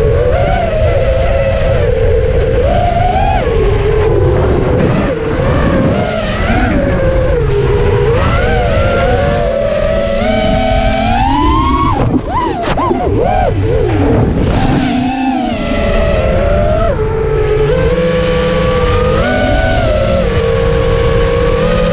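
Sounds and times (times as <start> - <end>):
small motor whine: 0.0 - 21.9
wind buffeting microphone: 0.0 - 21.9.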